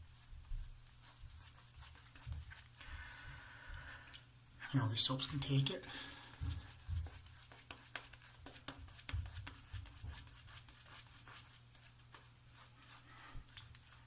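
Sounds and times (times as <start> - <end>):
shaving brush squishing lather: 0.0 - 2.8, 5.1 - 14.0.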